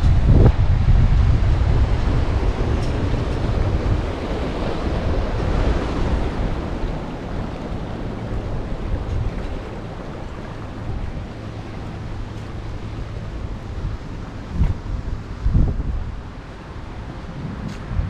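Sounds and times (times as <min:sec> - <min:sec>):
wind buffeting microphone: 0:00.0 - 0:18.0
small waves lapping shore: 0:01.1 - 0:18.0.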